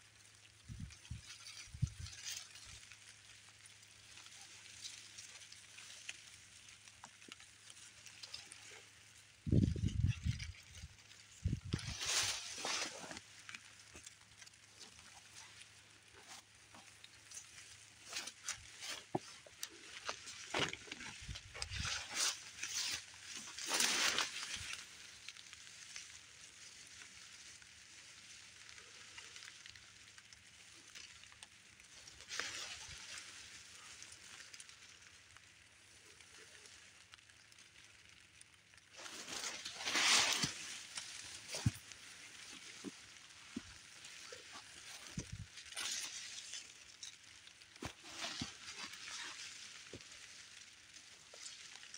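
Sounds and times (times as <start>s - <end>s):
stems crackling and clicking: 0.0s - 51.9s
bushes rustling: 0.3s - 51.9s.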